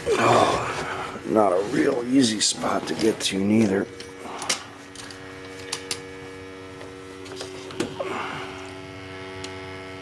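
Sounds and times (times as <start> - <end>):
probe and hose rustling: 0.0 - 8.8
steady electrical hum: 0.0 - 10.0.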